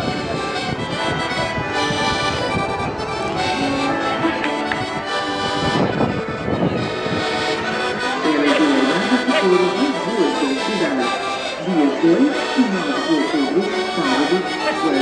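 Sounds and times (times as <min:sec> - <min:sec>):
traditional accordion music: 0:00.0 - 0:15.0.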